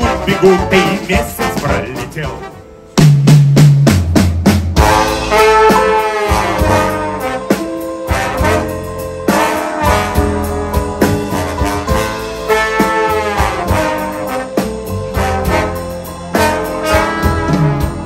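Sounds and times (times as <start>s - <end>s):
trombones playing chords: 0.0s - 3.0s, 4.7s - 18.0s
jazz band: 0.0s - 18.0s.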